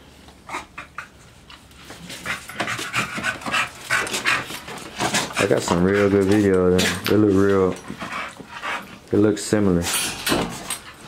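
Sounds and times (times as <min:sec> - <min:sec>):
dogs panting: 0:00.4 - 0:09.3, 0:10.4 - 0:11.0.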